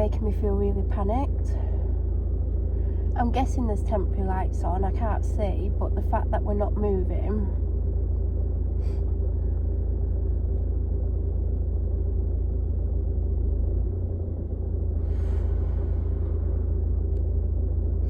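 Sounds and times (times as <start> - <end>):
car engine idling: 0.0 - 18.0
faint steady hum: 0.0 - 18.0.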